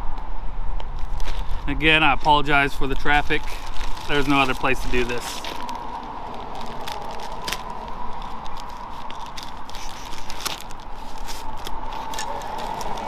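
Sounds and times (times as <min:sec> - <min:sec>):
roadside traffic hum: 0:00.0 - 0:13.0
sharp crackles and clicks: 0:00.1 - 0:13.0.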